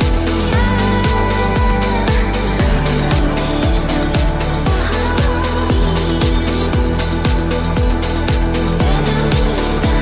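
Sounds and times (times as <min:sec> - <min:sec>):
deep kick drum: 0:00.0 - 0:10.0
electronic dance music: 0:00.0 - 0:10.0.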